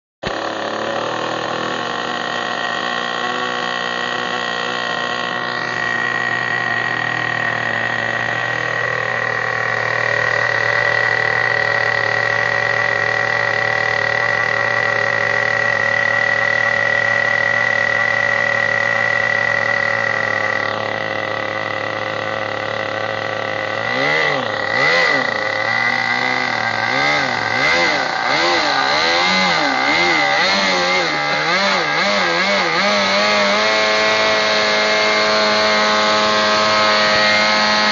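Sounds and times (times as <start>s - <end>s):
model boat engine revving: 0.2s - 37.9s.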